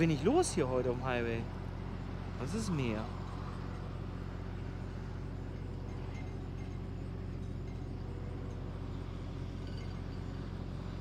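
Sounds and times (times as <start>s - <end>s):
diesel truck engine idling: 0.0s - 11.0s
faint highway traffic: 0.0s - 11.0s.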